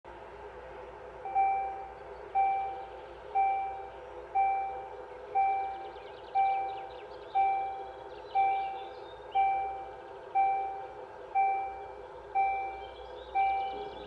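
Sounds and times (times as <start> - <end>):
level crossing warning bell: 1.2 - 14.0.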